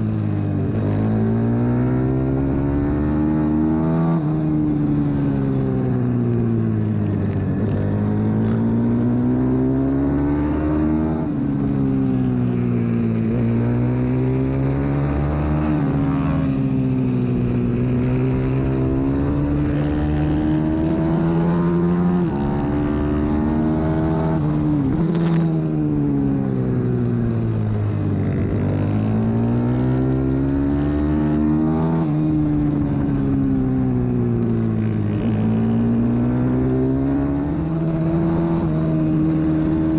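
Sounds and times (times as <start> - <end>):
motorbike engine racing: 0.0 - 39.9.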